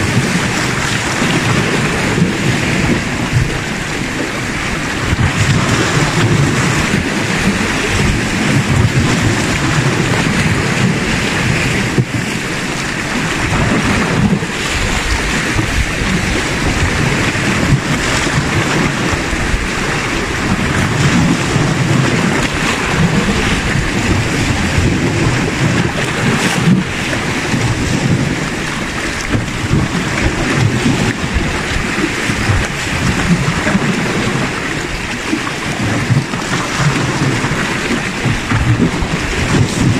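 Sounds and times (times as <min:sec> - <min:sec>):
waves breaking on rocks: 0:00.0 - 0:39.9
wind noise on microphone: 0:00.0 - 0:39.9.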